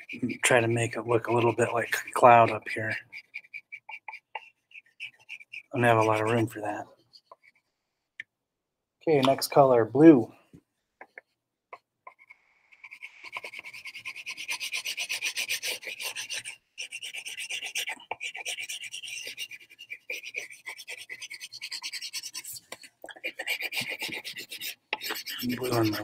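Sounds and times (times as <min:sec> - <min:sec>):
crayon scratching on paper: 0:00.0 - 0:07.8, 0:11.0 - 0:26.0.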